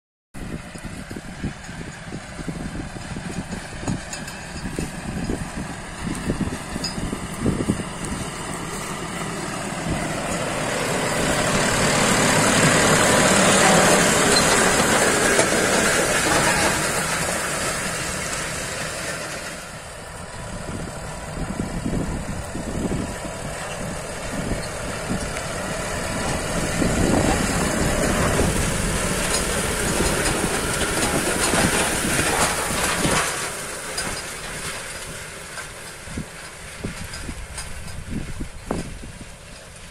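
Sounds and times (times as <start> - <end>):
harrow discs scraping dry soil: 0.4 - 39.9
tractor diesel engine under load: 0.4 - 39.9.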